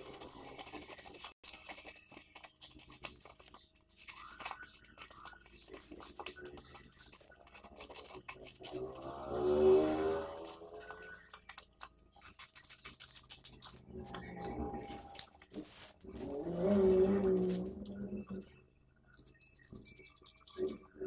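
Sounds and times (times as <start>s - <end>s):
scissors snipping paper: 0.0s - 9.4s, 10.1s - 17.8s.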